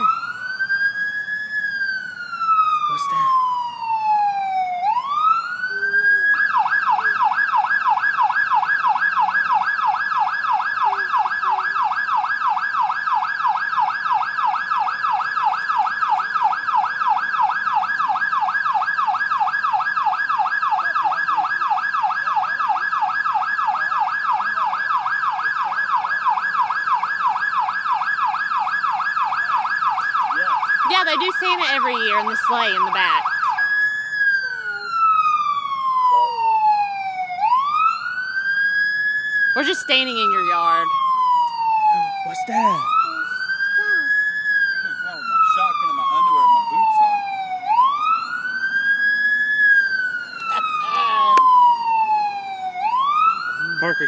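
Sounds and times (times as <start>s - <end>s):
electronic siren wailing and yelping: 0.0s - 54.0s.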